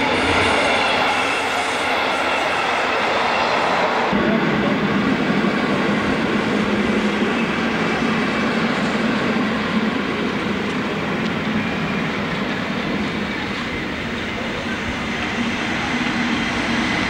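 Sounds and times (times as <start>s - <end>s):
train coaches rumbling past: 0.0s - 17.0s.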